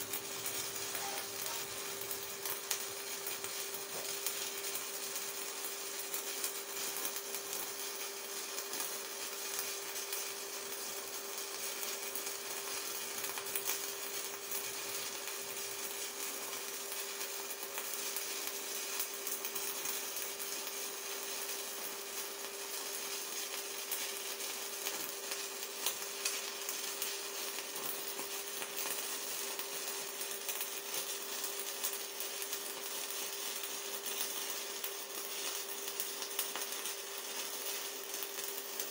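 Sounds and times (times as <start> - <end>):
faint welder hum: 0.0 - 38.9
welding arc crackling hiss: 0.0 - 38.9.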